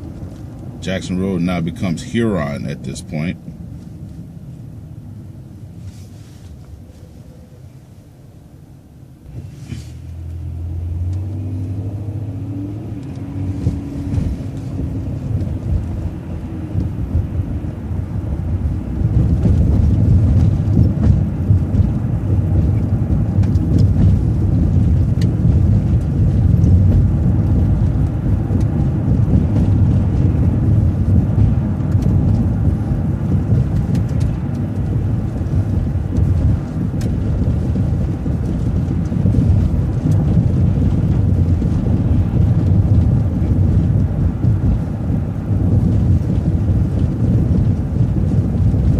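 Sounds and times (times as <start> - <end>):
bus engine and road rumble: 0.0 - 48.9.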